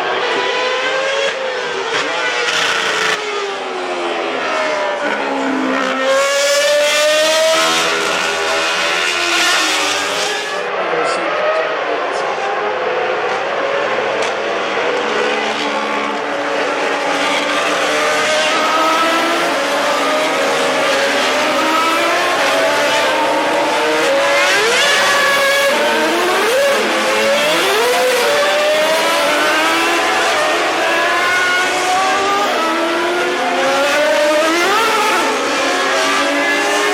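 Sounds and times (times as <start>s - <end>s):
racing car engines: 0.0s - 36.9s.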